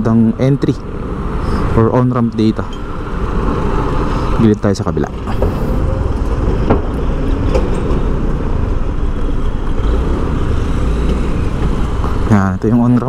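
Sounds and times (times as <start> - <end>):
city street traffic: 0.0 - 13.0
vehicle engine and road rumble: 0.0 - 13.0.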